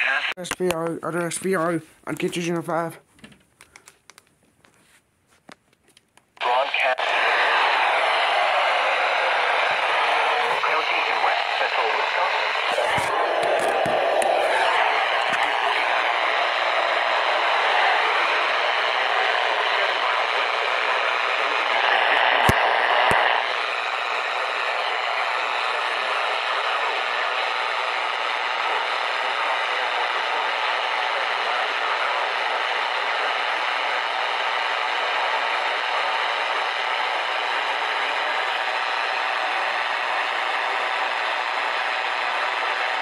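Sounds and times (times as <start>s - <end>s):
radio static hiss: 0.0s - 2.9s, 6.4s - 43.0s.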